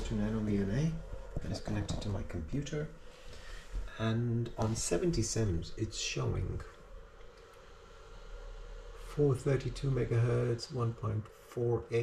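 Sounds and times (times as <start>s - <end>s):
faint steady hiss: 0.0s - 12.0s
low hum: 0.0s - 12.0s.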